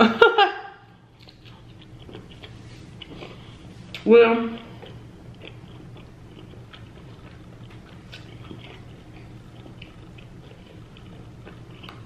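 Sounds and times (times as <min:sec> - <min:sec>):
low room hum: 0:00.0 - 0:12.0
person chewing with wet squishes: 0:01.1 - 0:12.0.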